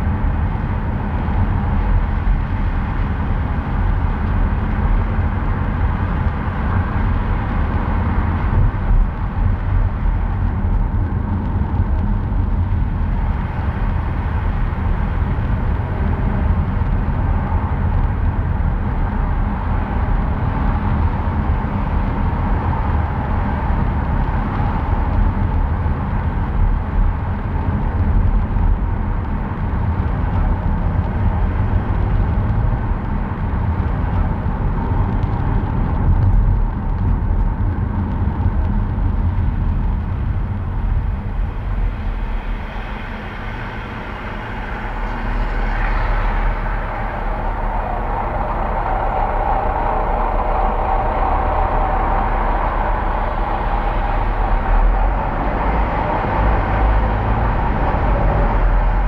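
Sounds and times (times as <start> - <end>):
car tyre and engine rumble: 0.0 - 59.0.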